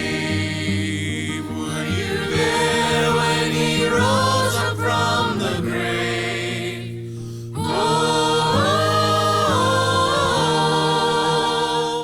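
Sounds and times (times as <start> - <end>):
a cappella gospel hymn singing: 0.0 - 12.0.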